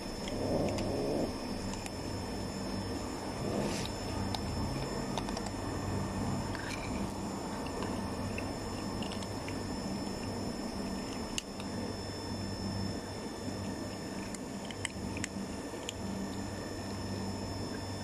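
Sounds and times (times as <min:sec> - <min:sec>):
kittens crunching dry food: 0:00.0 - 0:17.8
low steady hum: 0:00.0 - 0:18.0.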